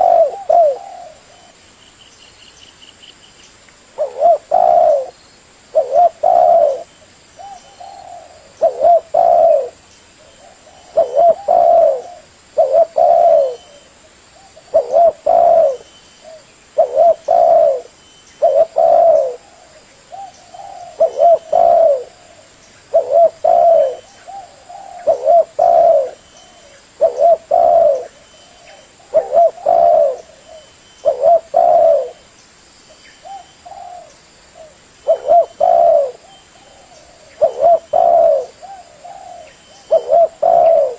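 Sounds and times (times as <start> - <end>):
dove cooing: 0.0 - 1.6, 4.0 - 32.2, 33.2 - 40.9.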